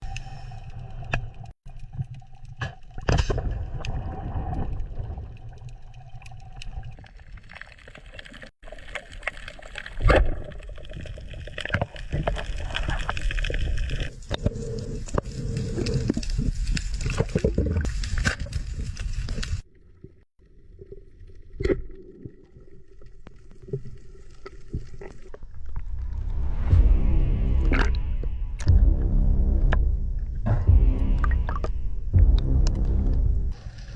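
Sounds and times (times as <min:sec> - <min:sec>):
water sloshing and gurgling: 0:00.0 - 0:33.9.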